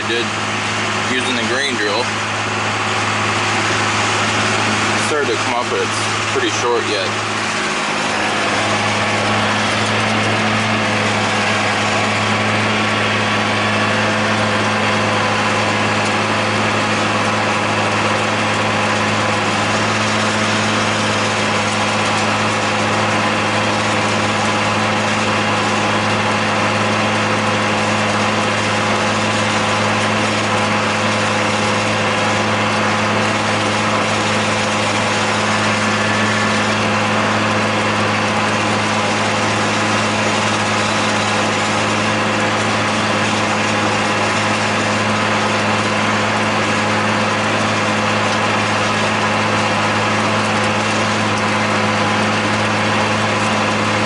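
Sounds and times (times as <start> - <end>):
tractor diesel engine droning: 0.0 - 54.0.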